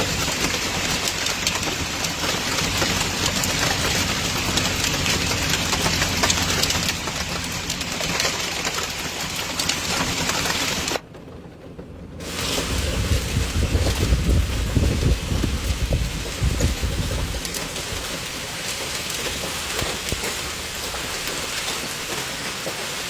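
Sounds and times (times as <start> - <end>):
hail and heavy rain pelting: 0.0 - 23.0.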